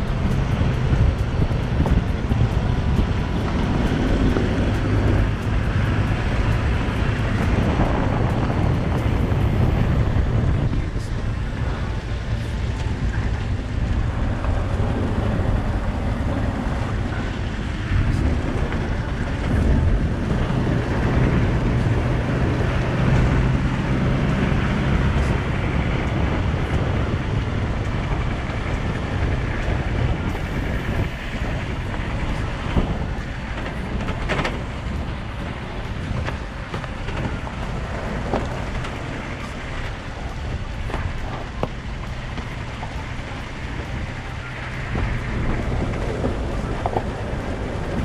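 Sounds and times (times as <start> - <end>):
vehicle engine and tyre noise: 0.0 - 48.0
wind buffeting microphone: 0.0 - 48.0.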